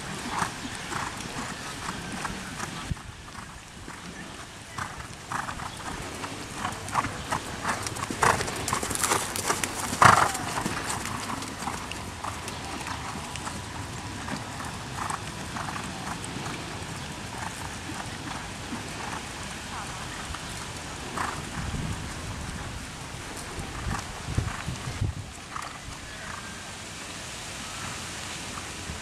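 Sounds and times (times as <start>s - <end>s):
horse hoofbeats on sand: 0.0s - 26.4s.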